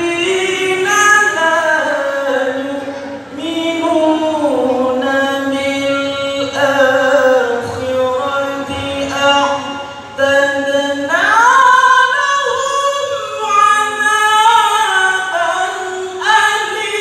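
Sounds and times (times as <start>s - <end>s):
man reciting in melodic chant: 0.0s - 17.0s.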